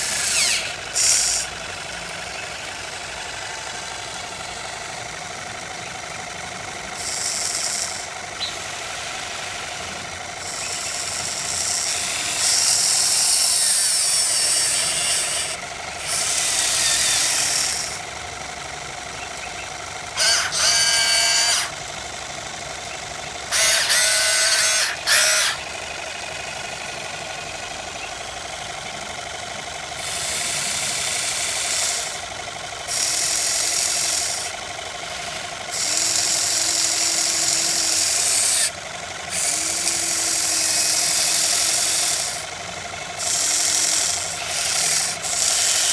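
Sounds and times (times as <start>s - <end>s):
electric motors whining: 0.0s - 45.9s.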